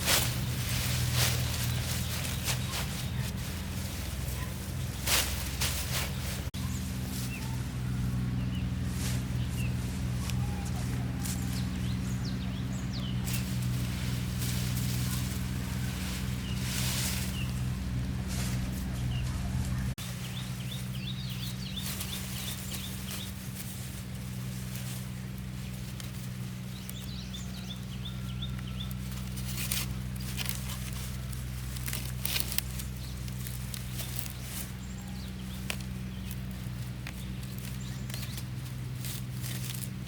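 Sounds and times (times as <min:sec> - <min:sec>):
birds chirping: 0:00.0 - 0:40.0
steady low hum: 0:00.0 - 0:40.0.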